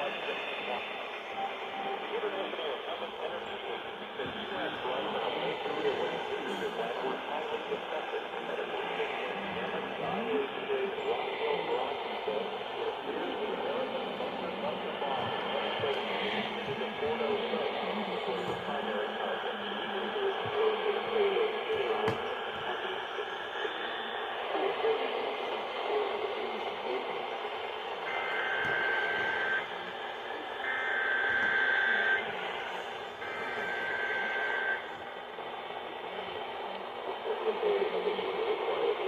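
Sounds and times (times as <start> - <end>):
radio hiss: 0.0 - 39.0.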